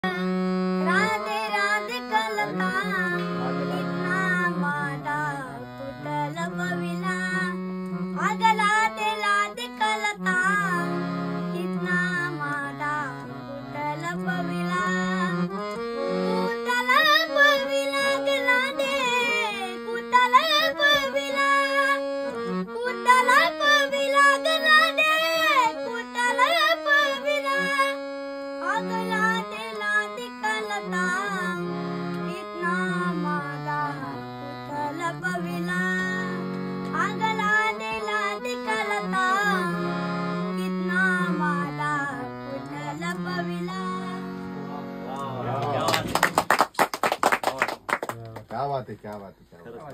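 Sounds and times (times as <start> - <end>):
boy singing folk song: 0.0 - 45.9
harmonium chords: 0.0 - 47.9.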